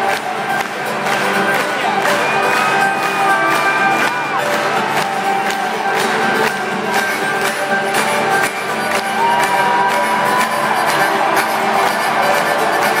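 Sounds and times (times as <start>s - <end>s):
crowd shouting and cheering: 0.0s - 13.0s
rock band playing live: 0.0s - 13.0s.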